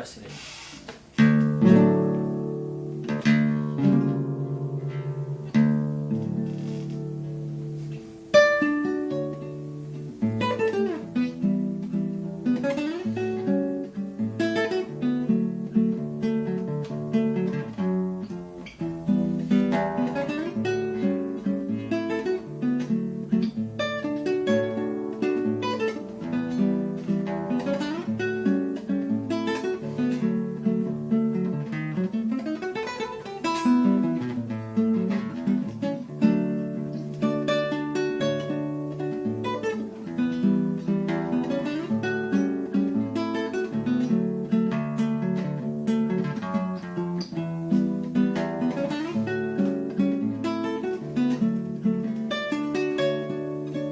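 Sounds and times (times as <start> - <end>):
plucked string instrument: 1.2 - 53.9.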